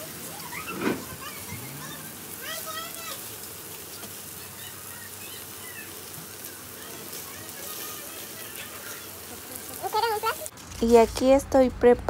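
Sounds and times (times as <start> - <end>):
faint voices: 0.0 - 10.5
meat sizzling on a grill: 0.0 - 11.4.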